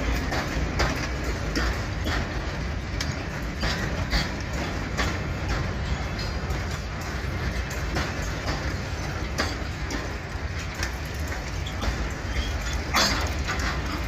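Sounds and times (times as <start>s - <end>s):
freight train rumbling past: 0.0s - 14.0s
wheels clanking over rail joints: 0.0s - 14.0s.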